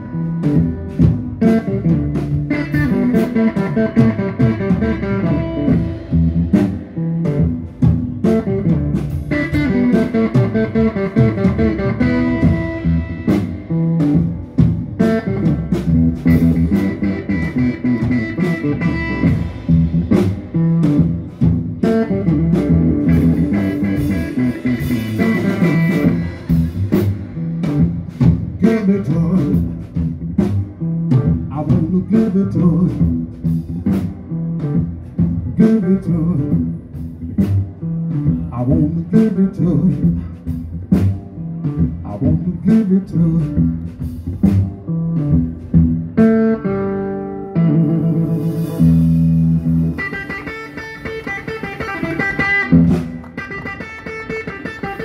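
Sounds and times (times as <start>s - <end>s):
drums playing steady beat: 0.0s - 46.8s, 47.6s - 55.0s
blues guitar riff: 0.0s - 55.0s.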